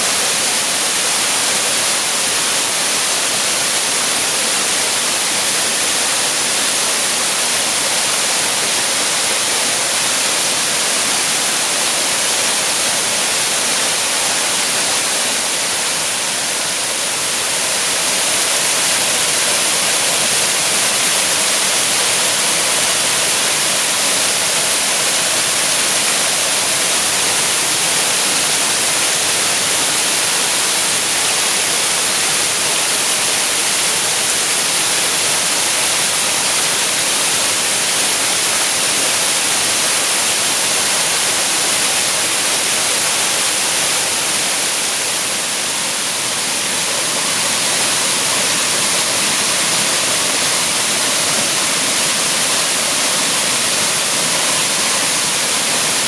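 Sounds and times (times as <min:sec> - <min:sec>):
waterfall pouring: 0:00.0 - 0:56.0.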